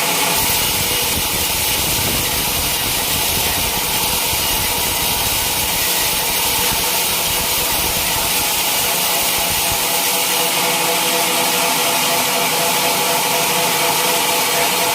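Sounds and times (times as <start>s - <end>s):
band saw cutting log: 0.0s - 14.9s.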